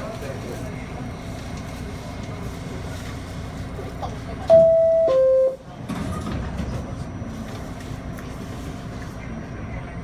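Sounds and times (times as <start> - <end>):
low rumble of train car: 0.0 - 10.0.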